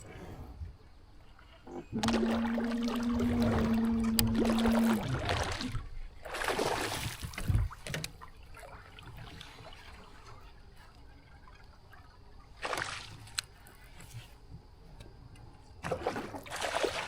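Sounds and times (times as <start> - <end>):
water splashing against kayak: 1.2 - 14.4, 15.8 - 17.0.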